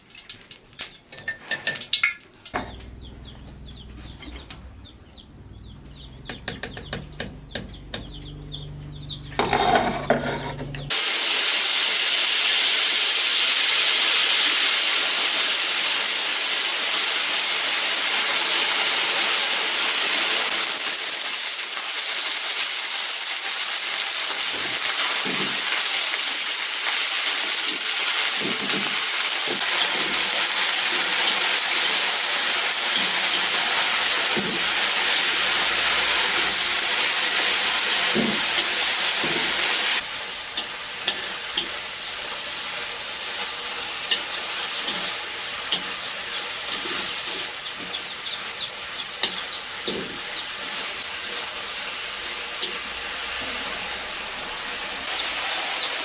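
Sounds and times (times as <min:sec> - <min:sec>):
food sizzling in a pan: 0:10.9 - 0:56.0.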